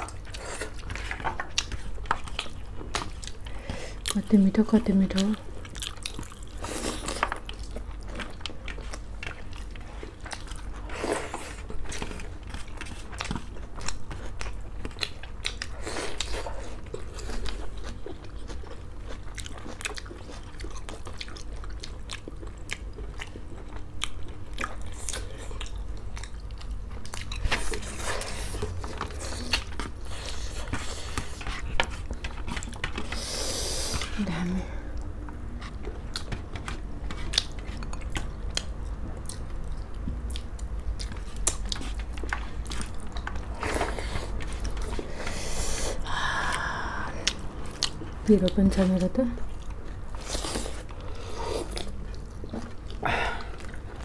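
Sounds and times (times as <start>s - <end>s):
people chewing food: 0.0s - 54.0s.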